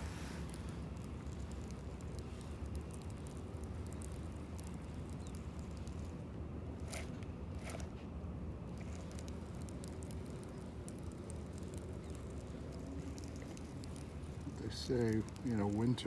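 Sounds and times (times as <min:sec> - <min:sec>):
faint clicks: 0:00.0 - 0:06.2, 0:08.8 - 0:16.0
sharp ticks: 0:00.0 - 0:06.2, 0:08.8 - 0:16.0
low outdoor rumble: 0:00.0 - 0:16.0.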